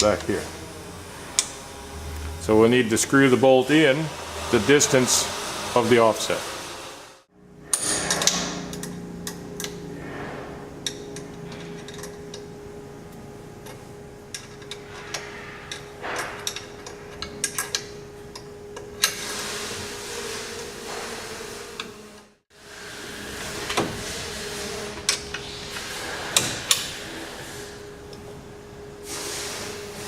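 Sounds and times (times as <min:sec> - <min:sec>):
machine hum: 0:00.0 - 0:29.1.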